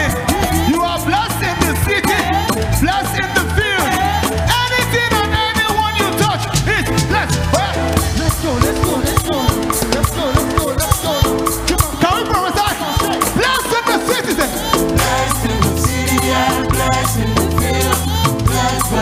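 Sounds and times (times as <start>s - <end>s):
drums: 0.0s - 19.0s
live gospel band playing: 0.0s - 19.0s
voices singing: 0.0s - 19.0s.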